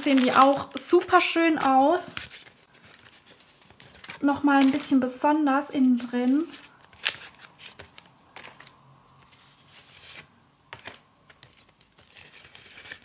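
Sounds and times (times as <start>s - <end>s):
paper cards rustling and clicking: 0.0s - 13.0s.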